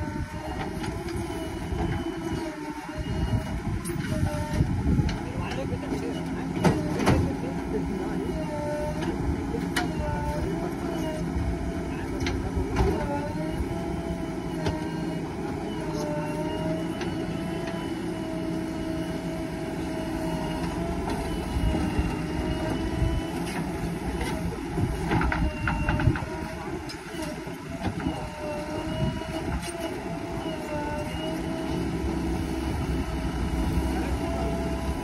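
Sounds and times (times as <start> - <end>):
diesel engine running: 0.0 - 35.0
hydraulic whine: 0.0 - 35.0.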